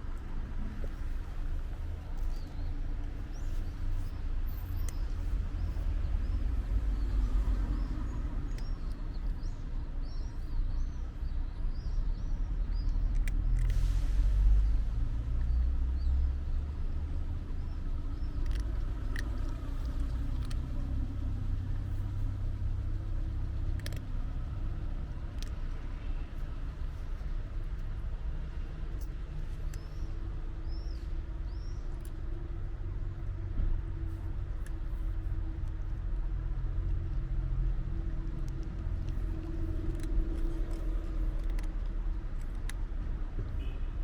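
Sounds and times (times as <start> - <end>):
street rumble: 0.0 - 44.0.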